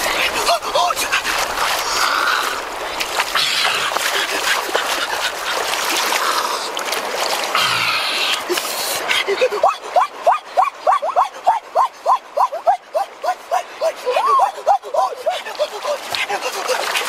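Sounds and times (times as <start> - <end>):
water splashing from hands: 0.0 - 9.6, 11.0 - 17.0
running shallow water: 0.0 - 17.0.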